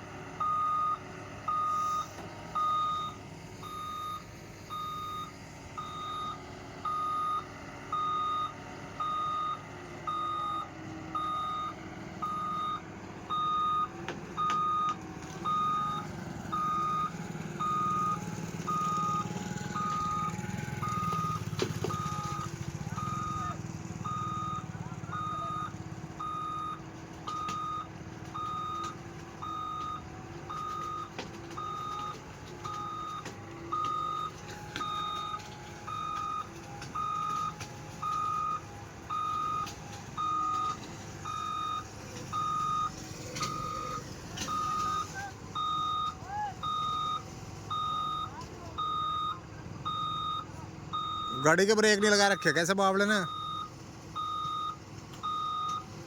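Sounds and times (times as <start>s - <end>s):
loader engine running: 0.0s - 56.0s
reversing alarm beeping: 0.4s - 55.9s.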